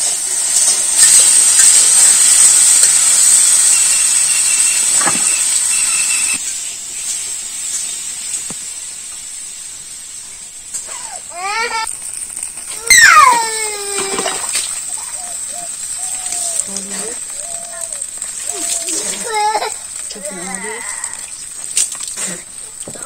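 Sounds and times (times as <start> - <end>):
food frying in hot oil: 0.0 - 23.0
outdoor hiss: 0.0 - 23.0.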